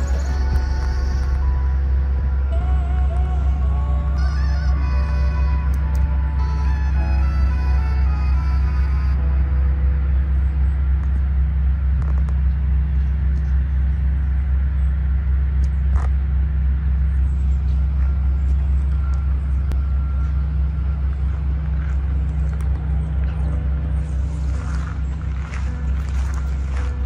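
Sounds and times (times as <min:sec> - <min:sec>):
loud low drone: 0:00.0 - 0:27.0.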